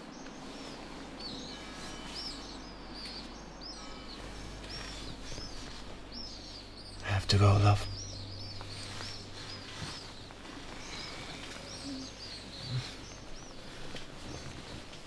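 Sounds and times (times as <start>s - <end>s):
faint room hum: 0.0s - 15.0s
small birds chirping: 0.0s - 15.0s.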